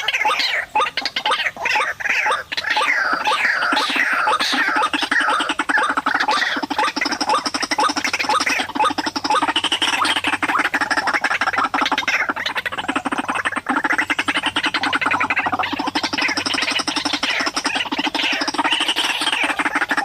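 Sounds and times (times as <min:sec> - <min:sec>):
waterhen calling: 0:00.0 - 0:20.0.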